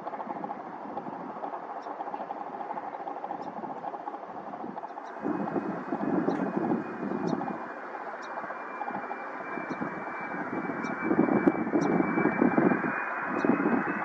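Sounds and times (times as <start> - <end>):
aircraft engine running: 0.0 - 14.0.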